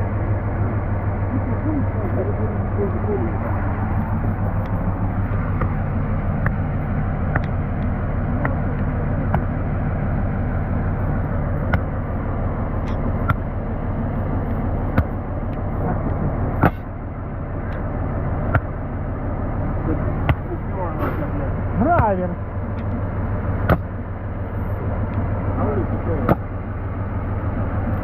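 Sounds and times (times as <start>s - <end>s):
diesel locomotive engine idling: 0.0s - 28.0s.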